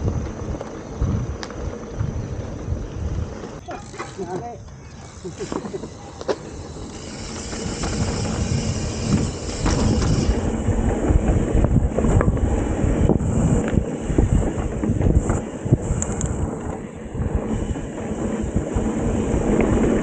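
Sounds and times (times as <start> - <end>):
tyres on dirt: 0.0 - 20.0
bike frame and chain rattling: 1.6 - 20.0.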